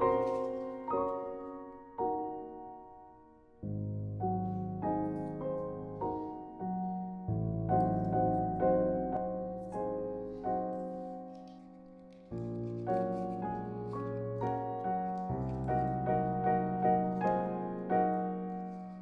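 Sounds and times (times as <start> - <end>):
soft piano melody: 0.0 - 19.0.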